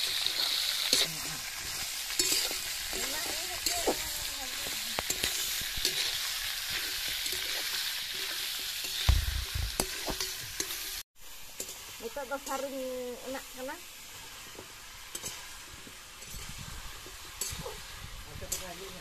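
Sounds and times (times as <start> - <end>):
metal spatula scraping a pan: 0.0 - 9.1, 11.6 - 19.0
meat sizzling in a wok: 0.0 - 19.0.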